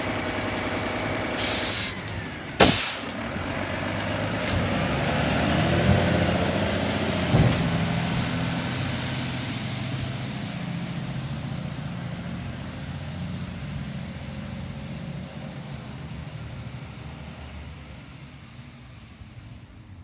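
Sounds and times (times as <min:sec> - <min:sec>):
garbage truck engine running: 0:00.0 - 0:17.1.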